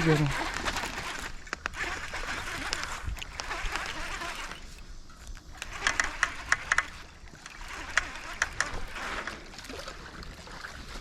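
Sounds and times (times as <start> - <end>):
sharp irregular clicks: 0.0 - 9.2
water splashing: 0.0 - 11.0.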